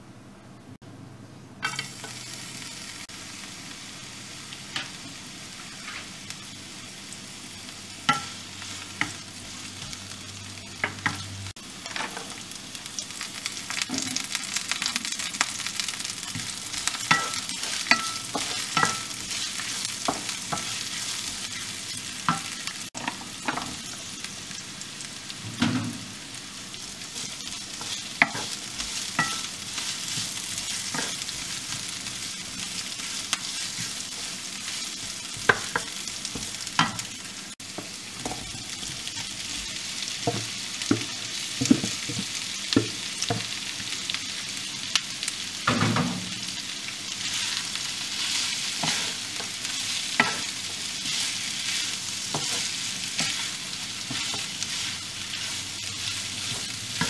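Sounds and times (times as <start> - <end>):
vegetables sizzling in hot oil: 1.6 - 57.0.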